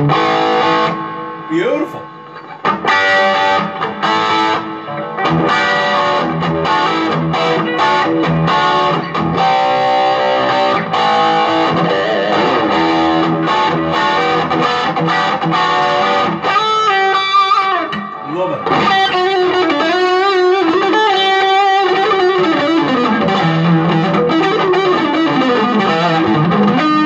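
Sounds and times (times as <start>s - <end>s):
electric guitar chord riff: 0.0s - 27.0s.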